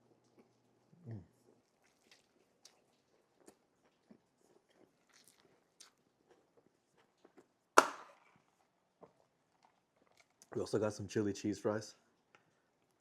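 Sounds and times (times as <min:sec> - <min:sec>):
mouth chewing food: 0:00.0 - 0:10.7.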